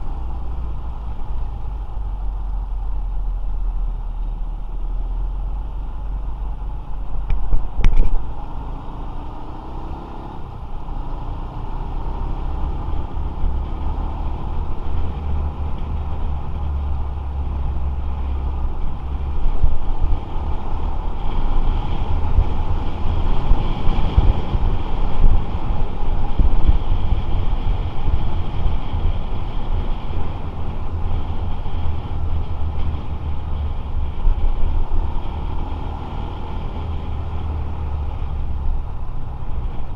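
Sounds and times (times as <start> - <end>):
low wind rumble: 0.0 - 39.9
motorcycle engine and road noise: 0.0 - 39.9.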